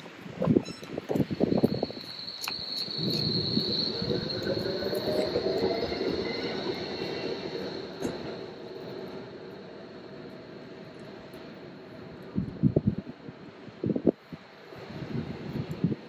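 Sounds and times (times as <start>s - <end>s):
tram wheel squeal: 0.0s - 13.8s.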